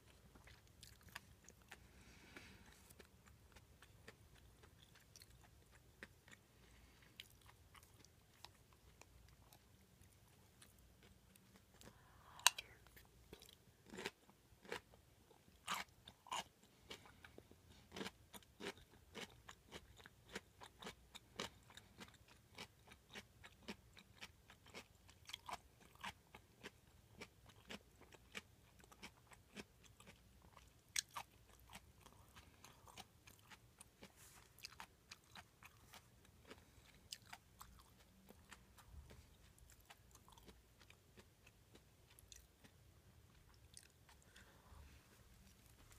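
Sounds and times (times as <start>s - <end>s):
person chewing food: 0.0s - 45.9s.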